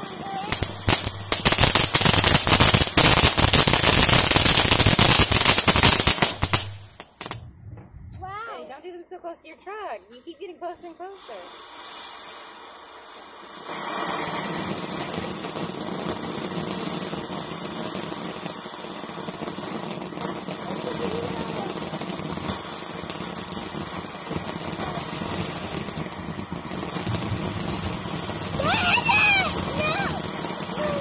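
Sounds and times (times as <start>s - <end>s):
firework fountain hissing and crackling: 0.0s - 7.6s, 9.6s - 31.0s.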